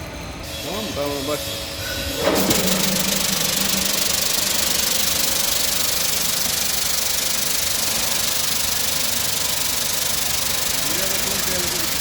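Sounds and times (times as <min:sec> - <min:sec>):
roasting machine hissing: 0:00.4 - 0:12.0.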